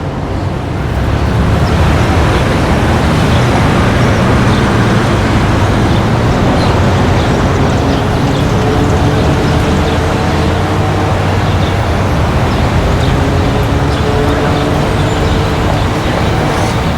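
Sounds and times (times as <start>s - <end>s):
low engine rumble: 0.0s - 16.9s
street traffic: 0.0s - 16.9s.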